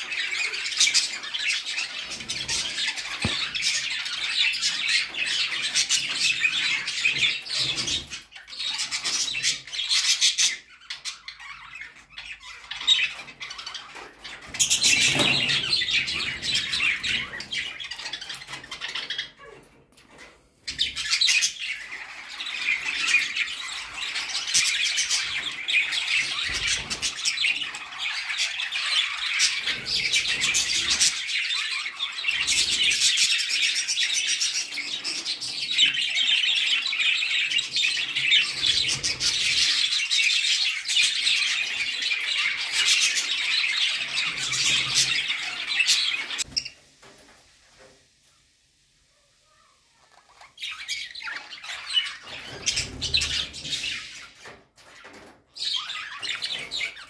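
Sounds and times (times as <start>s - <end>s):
budgerigars chattering and chirping: 0.0s - 19.6s, 20.2s - 46.8s, 50.0s - 57.0s.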